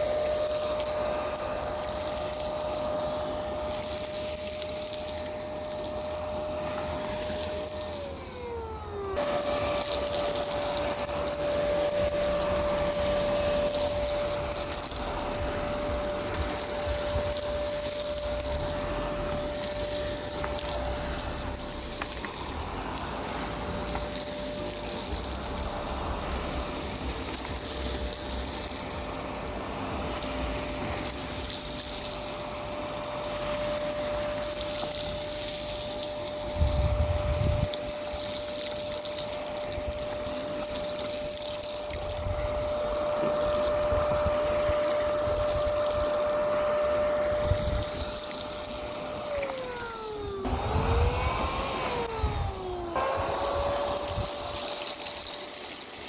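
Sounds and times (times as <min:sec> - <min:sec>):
debris crackling in vacuum: 0:00.0 - 0:56.0
vacuum cleaner running: 0:00.0 - 0:56.0.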